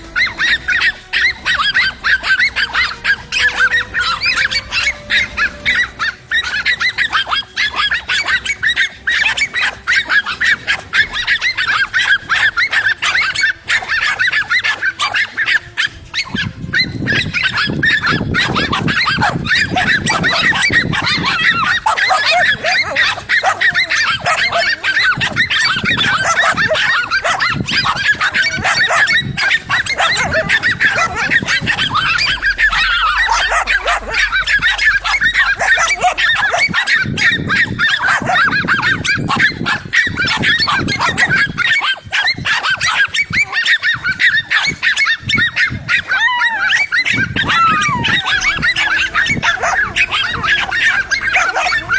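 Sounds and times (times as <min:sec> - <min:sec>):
deeper dog barks: 0:00.0 - 0:51.9
dogs barking: 0:00.0 - 0:51.9.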